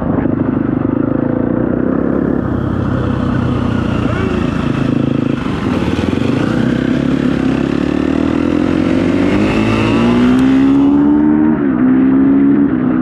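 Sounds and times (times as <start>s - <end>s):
dirt bike engine revving: 0.8s - 11.8s.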